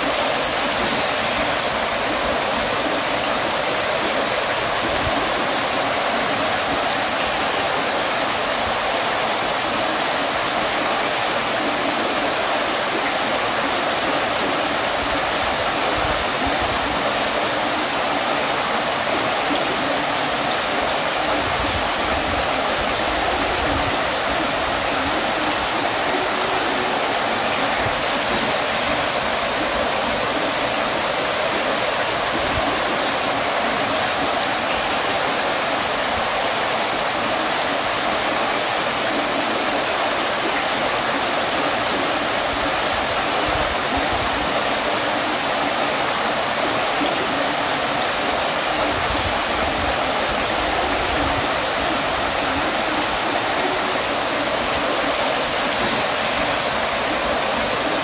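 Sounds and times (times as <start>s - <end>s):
water fountain splashing: 0.0s - 58.0s.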